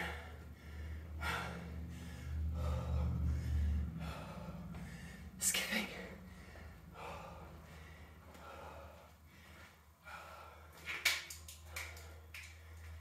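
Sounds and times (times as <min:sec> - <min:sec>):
woman breathing hard: 0:00.0 - 0:10.9.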